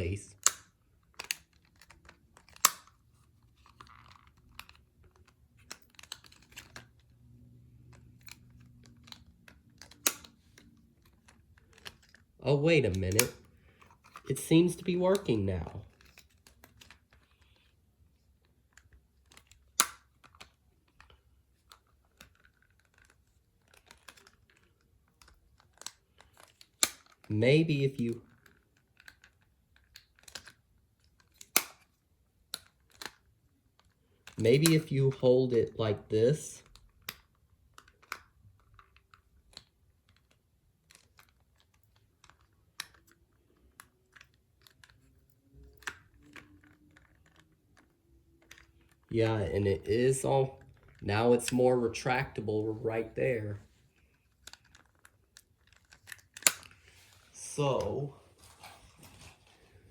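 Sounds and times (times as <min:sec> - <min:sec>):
plastic toy parts clicking: 0:00.3 - 0:07.1, 0:07.8 - 0:12.3, 0:12.9 - 0:17.7, 0:18.4 - 0:27.3, 0:27.9 - 0:35.6, 0:36.6 - 0:49.1, 0:54.0 - 0:59.6.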